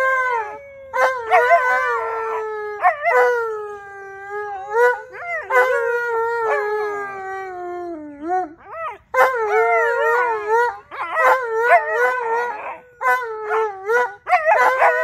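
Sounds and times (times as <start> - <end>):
dogs howling: 0.0 - 15.0.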